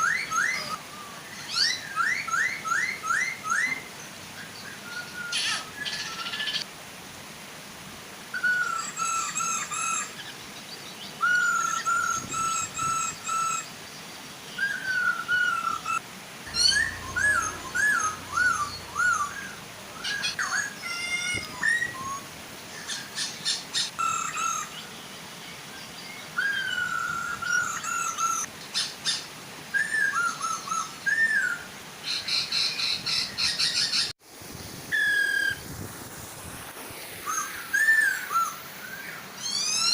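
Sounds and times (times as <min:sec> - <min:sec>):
birds whistling calls: 0:00.0 - 0:06.7, 0:08.3 - 0:10.4, 0:11.0 - 0:13.7, 0:14.5 - 0:24.9, 0:25.9 - 0:34.1, 0:34.9 - 0:35.6, 0:37.2 - 0:39.9
small waterfall hiss: 0:00.0 - 0:39.9.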